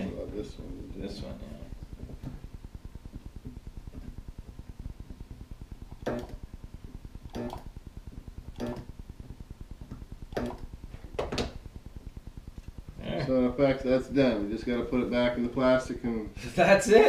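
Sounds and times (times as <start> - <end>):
low pulsing hum: 0.0 - 16.5.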